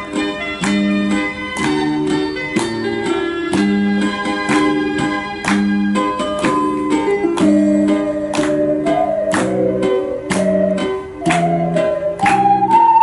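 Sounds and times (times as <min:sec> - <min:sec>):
ocarina ensemble playing: 0:00.0 - 0:13.0.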